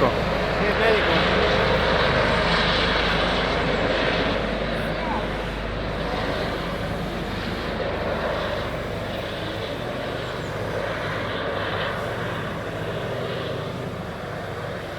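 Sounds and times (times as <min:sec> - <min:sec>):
helicopter flying overhead: 0:00.0 - 0:14.9.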